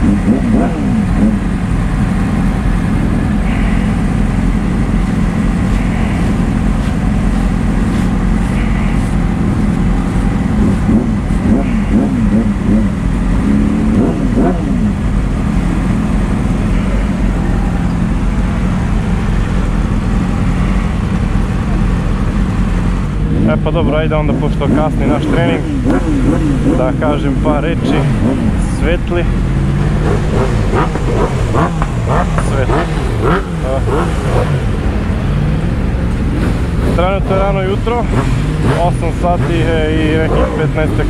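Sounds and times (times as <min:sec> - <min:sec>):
engine idling: 0:00.0 - 0:41.0
voices talking: 0:00.0 - 0:41.0.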